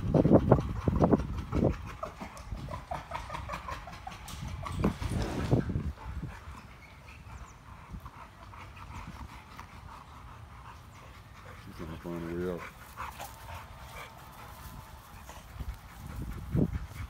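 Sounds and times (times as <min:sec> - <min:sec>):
dogs breathing: 0:00.0 - 0:17.0.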